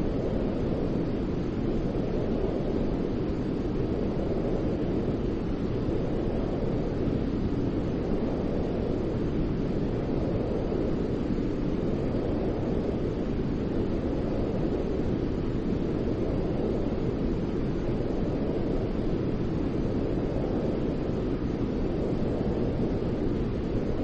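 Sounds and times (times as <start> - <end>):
low-pitched white noise: 0.0 - 24.0.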